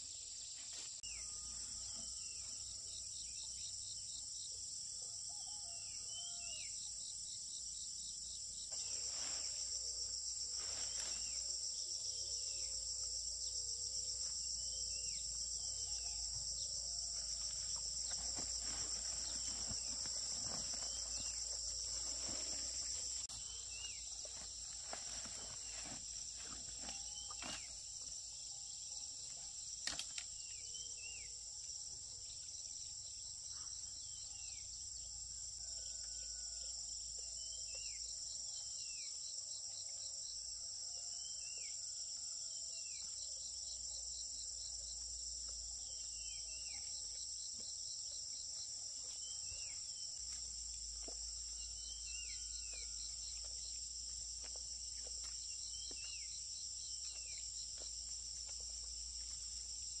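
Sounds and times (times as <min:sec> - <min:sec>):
high-pitched insect chorus: 0:00.0 - 1:00.0.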